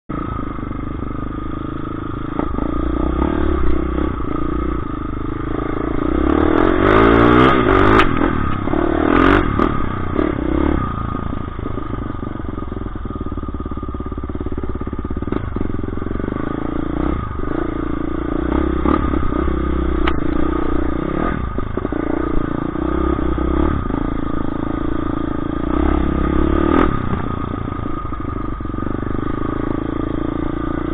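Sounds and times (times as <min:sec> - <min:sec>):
dirt bike engine revving: 0:01.5 - 0:11.9, 0:14.4 - 0:30.9.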